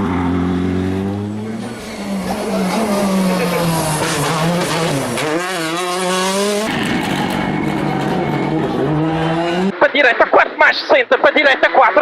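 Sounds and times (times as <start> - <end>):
car engine at high revs: 0.0 - 9.8.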